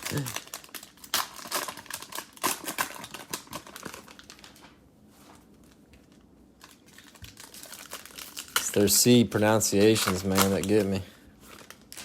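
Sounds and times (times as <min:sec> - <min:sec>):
plastic wrapper crinkling: 0:00.0 - 0:04.8, 0:05.5 - 0:12.0.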